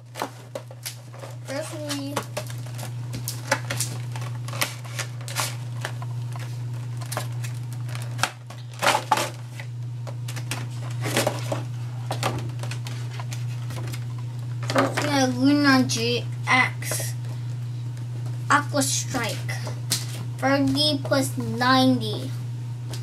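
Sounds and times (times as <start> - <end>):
plastic tray and cards crinkling: 0.0 - 17.5, 18.3 - 22.2
steady low hum: 0.0 - 23.0.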